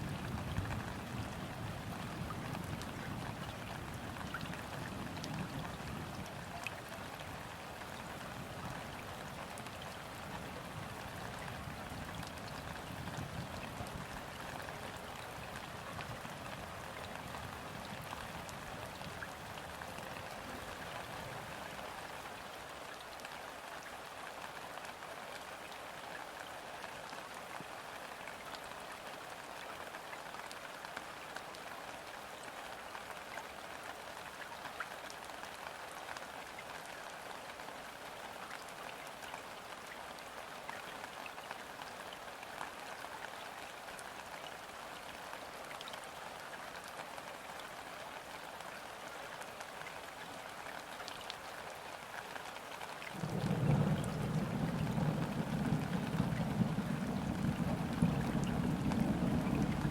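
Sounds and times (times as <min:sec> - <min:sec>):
light rain on water: 0:00.0 - 0:59.9.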